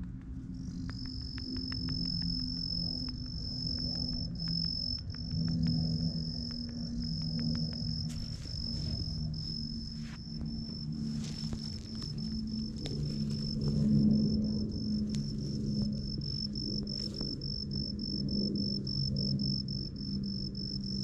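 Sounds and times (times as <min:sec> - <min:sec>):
low steady hum: 0:00.0 - 0:21.0
insect high-pitched trill: 0:00.6 - 0:21.0.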